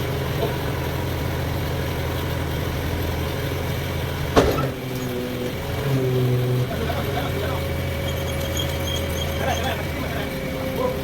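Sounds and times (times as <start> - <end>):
sawmill machinery humming: 0.0 - 11.0.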